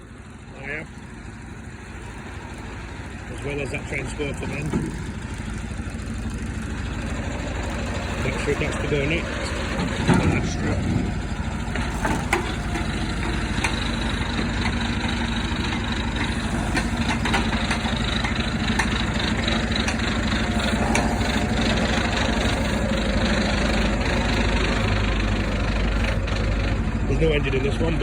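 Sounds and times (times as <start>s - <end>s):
diesel lorry engine running: 0.0s - 28.0s.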